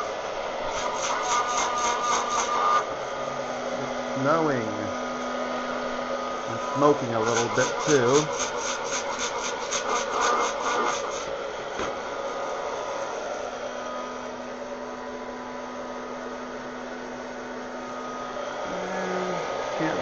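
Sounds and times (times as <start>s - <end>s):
hot-air popper fan blowing: 0.0s - 20.0s.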